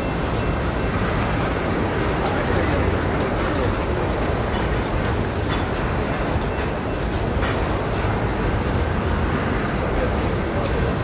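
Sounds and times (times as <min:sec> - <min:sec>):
steel wheels rumbling on rails: 0:00.0 - 0:11.0
wheels clicking over rail joints: 0:00.0 - 0:11.0.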